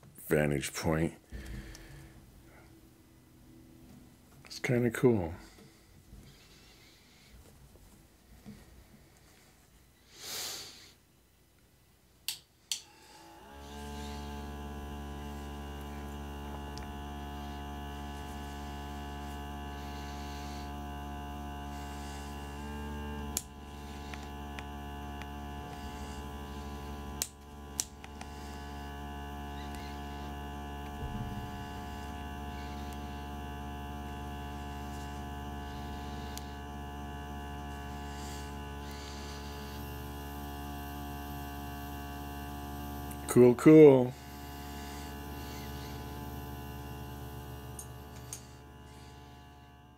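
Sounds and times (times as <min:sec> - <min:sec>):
air pump humming: 0:00.0 - 0:11.0, 0:12.5 - 0:49.9.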